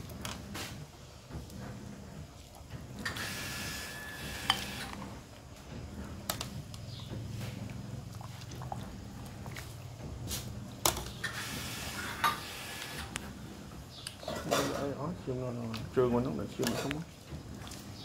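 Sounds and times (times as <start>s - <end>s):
ladle scraping and swishing soup: 0.0s - 14.9s, 16.5s - 18.0s.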